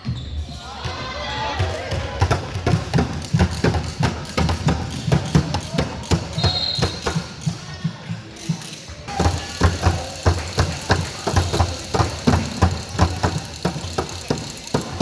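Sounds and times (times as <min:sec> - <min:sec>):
basketballs bouncing on court: 0:00.0 - 0:15.0.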